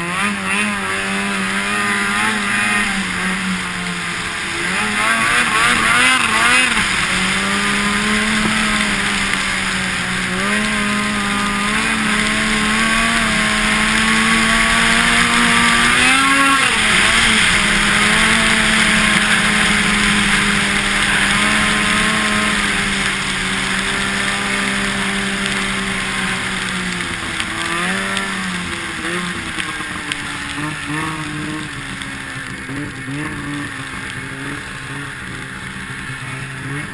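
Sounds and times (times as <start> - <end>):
snowmobile engine revving: 0.0 - 36.9
steady rushing hiss: 0.8 - 36.9.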